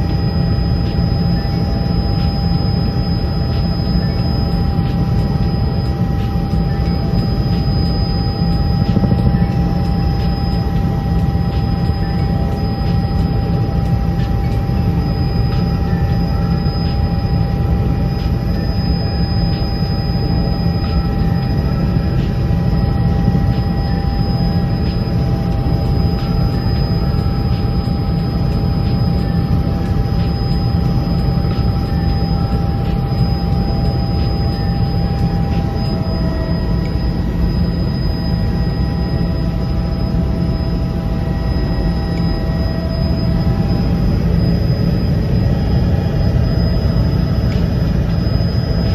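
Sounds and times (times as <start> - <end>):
constant whining tones: 0.0 - 48.9
helicopter engine and rotor rumble: 0.0 - 48.9.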